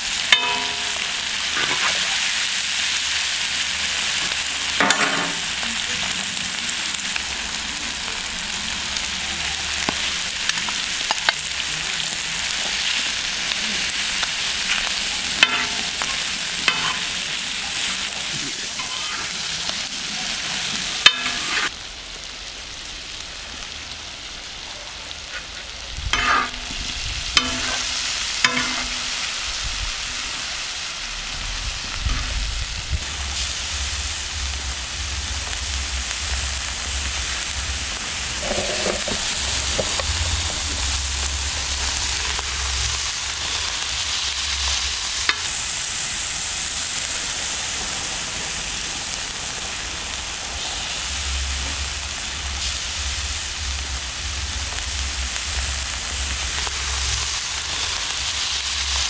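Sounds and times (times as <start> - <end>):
meat sizzling on a griddle: 0.0 - 59.0.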